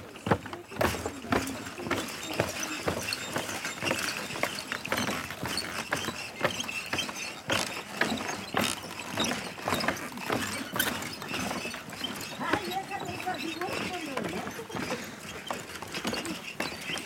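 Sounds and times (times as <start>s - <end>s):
footsteps on wooden planks: 0.0s - 17.0s.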